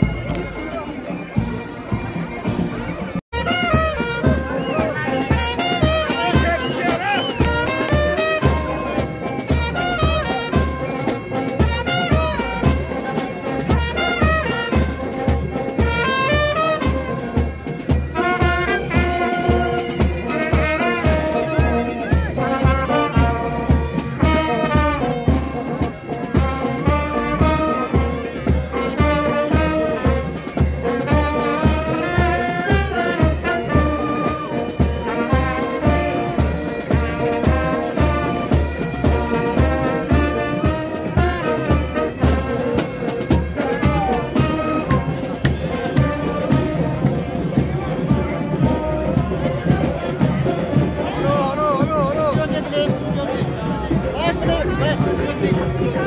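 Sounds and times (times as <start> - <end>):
marching band playing: 0.0 - 56.0.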